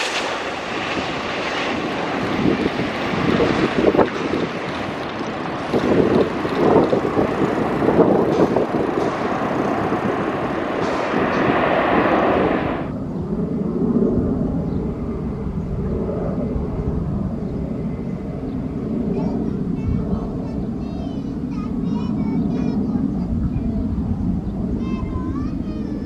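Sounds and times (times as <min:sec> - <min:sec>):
aircraft engine noise: 0:00.0 - 0:26.0
wind buffeting microphone: 0:00.0 - 0:26.0.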